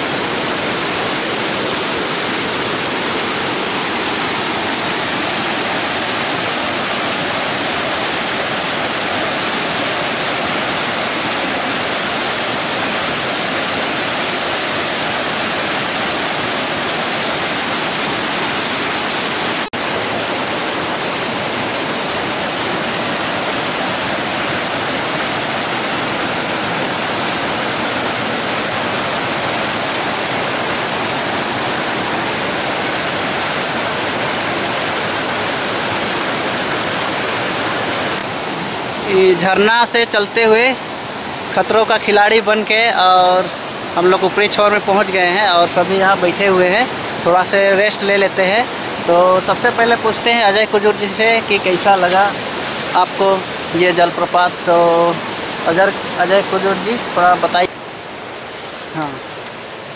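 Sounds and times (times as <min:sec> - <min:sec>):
water rushing over boulders: 0:00.0 - 0:59.9.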